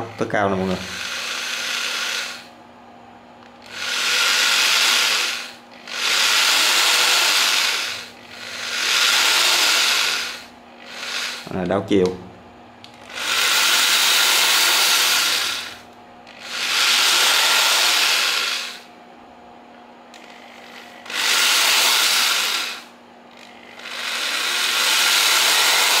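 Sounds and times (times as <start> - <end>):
electric drill running: 0.0 - 2.6, 3.4 - 11.6, 12.8 - 19.0, 20.1 - 26.0.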